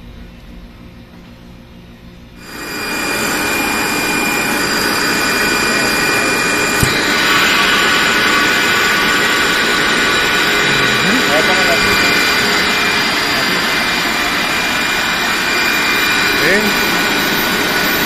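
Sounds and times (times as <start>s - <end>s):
air compressor running: 2.4s - 18.0s
high whine: 2.4s - 18.0s.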